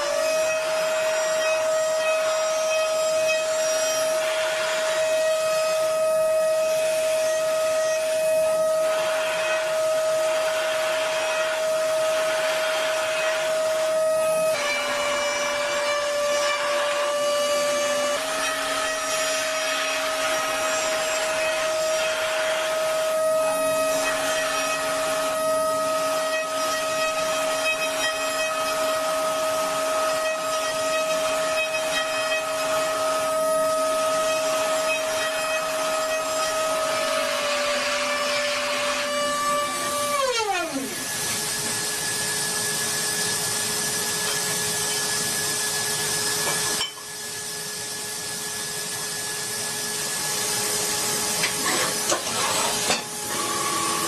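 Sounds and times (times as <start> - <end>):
machine tool motor whine: 0.0 - 54.0.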